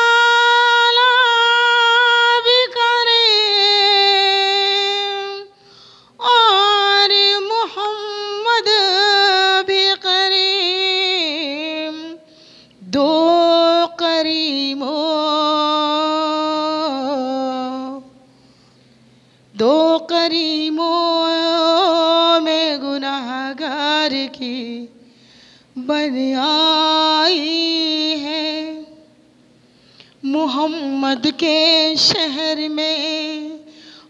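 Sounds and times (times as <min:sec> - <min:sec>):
woman singing unaccompanied: 0:00.0 - 0:18.2, 0:19.5 - 0:25.0, 0:25.8 - 0:29.1, 0:30.2 - 0:33.8.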